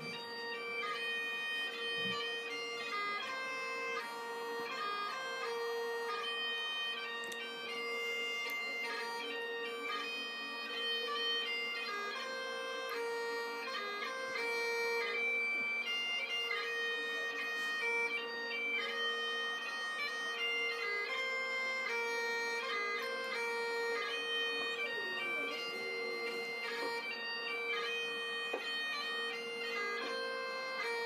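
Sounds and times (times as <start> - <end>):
bagpipes playing over a drone: 0.0 - 31.0.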